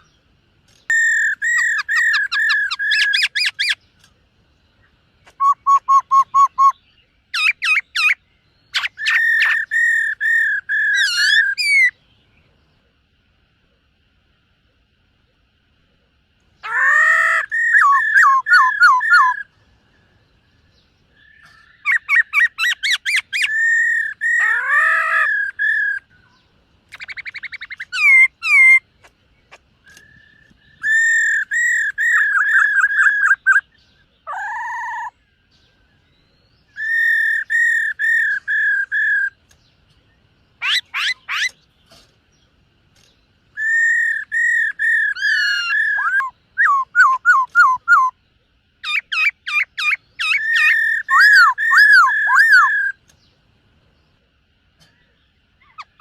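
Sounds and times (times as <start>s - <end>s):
bird singing whistled notes: 0.0s - 4.0s, 4.6s - 12.7s, 16.6s - 39.8s, 40.5s - 53.4s.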